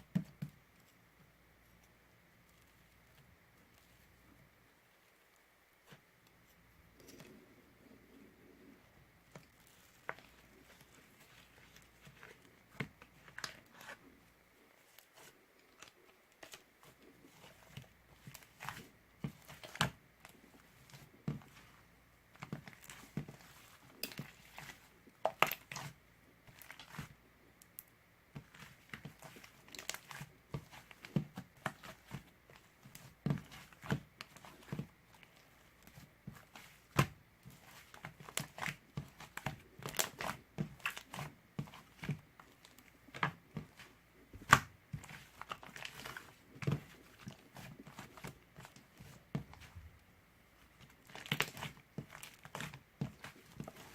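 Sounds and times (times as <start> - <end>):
crinkling and rustling: 5.0 - 53.9.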